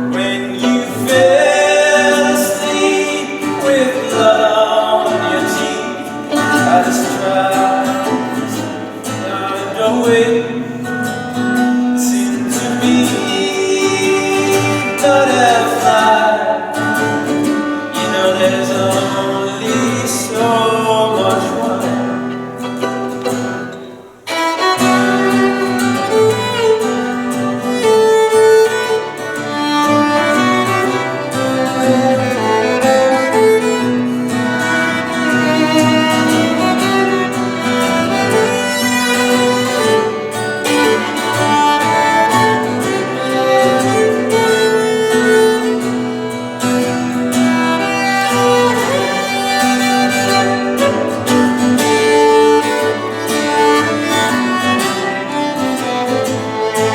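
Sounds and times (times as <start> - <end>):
bowed violin melody: 0.0 - 56.9
guitar accompaniment: 0.0 - 56.9.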